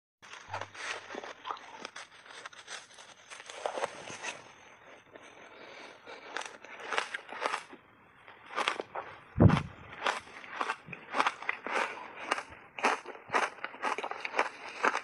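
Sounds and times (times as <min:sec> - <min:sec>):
ice crunching in mouth: 0:00.3 - 0:07.8, 0:08.4 - 0:15.0.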